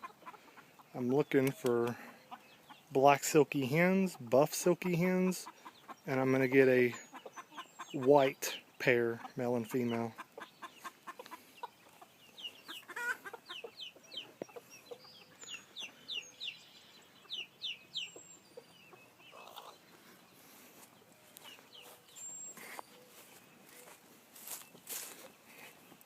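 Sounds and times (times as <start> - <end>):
chickens clucking: 0.0 - 26.0
chicks peeping: 0.0 - 26.0.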